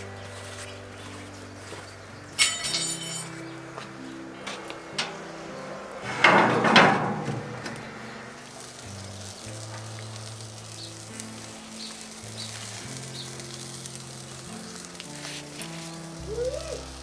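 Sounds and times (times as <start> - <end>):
pan scraping across metal grill: 0.0 - 3.6, 4.3 - 16.3
soft background music: 0.0 - 17.0.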